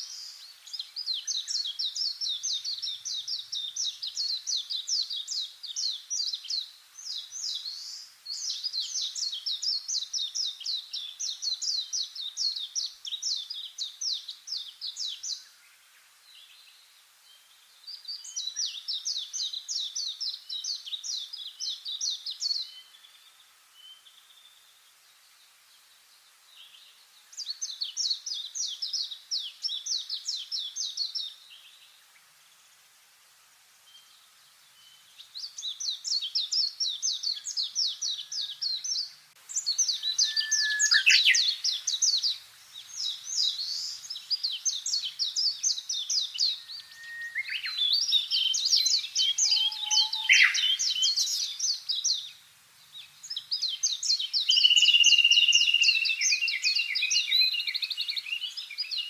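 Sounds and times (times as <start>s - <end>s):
songbird singing trills: 0.0s - 24.9s, 25.7s - 32.0s, 33.8s - 59.0s.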